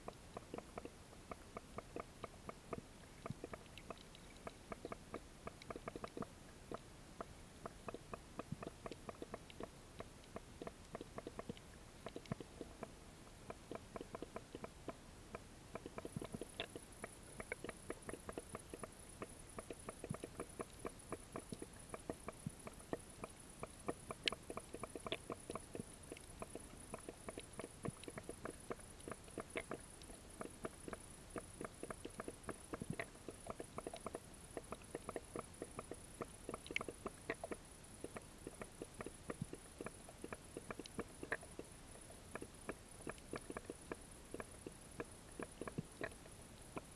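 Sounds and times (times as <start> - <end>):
low underwater hiss: 0.0 - 46.9
underwater crackle of clicks: 0.0 - 46.9.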